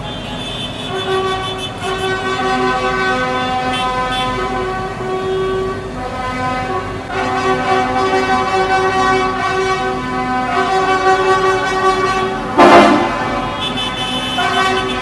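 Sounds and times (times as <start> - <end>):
vehicle horns honking: 0.0 - 15.0.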